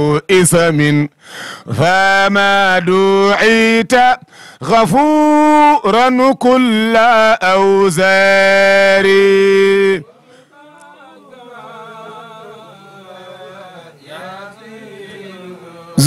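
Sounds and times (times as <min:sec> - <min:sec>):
man chanting: 0:00.0 - 0:16.0.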